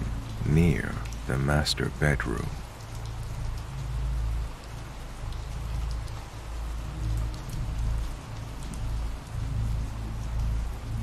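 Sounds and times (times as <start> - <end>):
rain drop ticks: 0.0 - 11.0
steady rain falling: 0.0 - 11.0.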